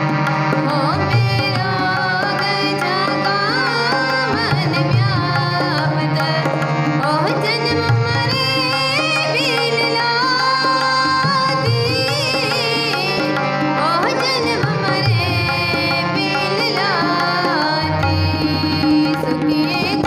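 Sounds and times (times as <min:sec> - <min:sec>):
harmonium chords: 0:00.0 - 0:20.0
tabla: 0:00.0 - 0:20.0.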